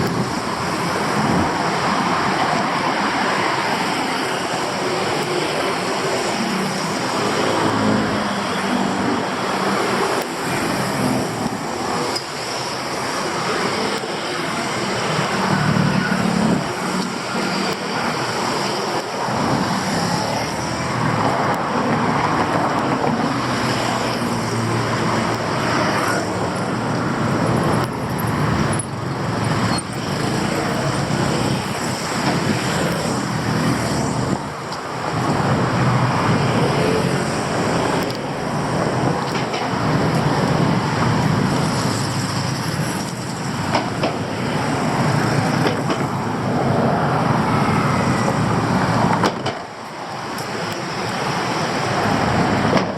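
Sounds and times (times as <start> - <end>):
passing vehicle engines: 0.0 - 52.9.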